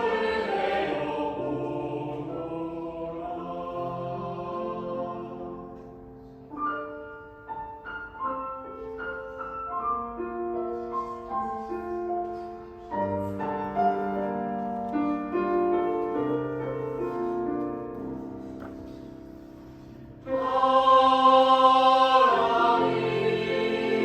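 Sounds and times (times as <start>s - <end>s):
piano melody over held chords: 0.0s - 24.0s.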